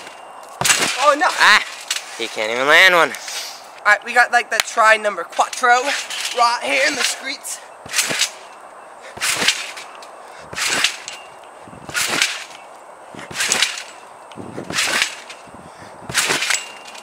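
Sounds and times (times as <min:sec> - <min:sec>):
trampoline springs bouncing: 0:00.0 - 0:03.0, 0:04.7 - 0:17.0.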